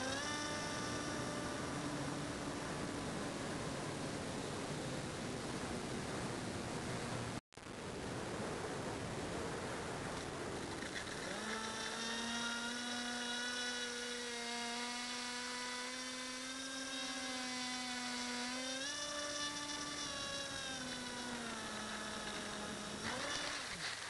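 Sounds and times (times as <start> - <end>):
electric motor and propeller whining: 0.0 - 7.4, 8.2 - 24.0.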